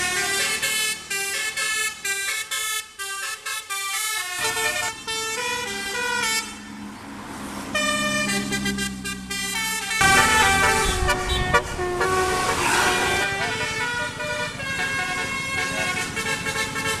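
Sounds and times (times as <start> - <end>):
musical bus air horn: 0.0 - 6.7, 7.8 - 17.0
bus engine: 0.0 - 17.0.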